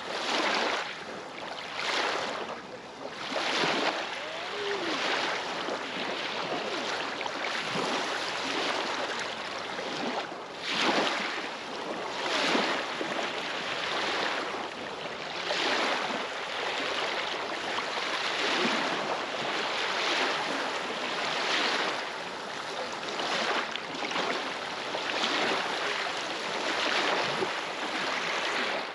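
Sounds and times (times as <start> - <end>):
waves lapping on rocky shore: 0.0 - 28.9.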